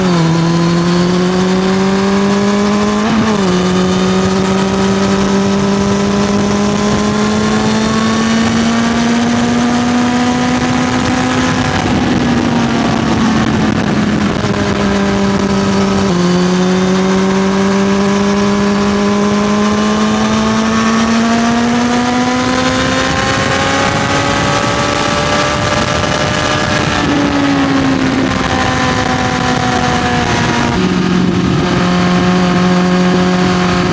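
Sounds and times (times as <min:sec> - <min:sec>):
motorcycle engine running loudly: 0:00.0 - 0:33.9.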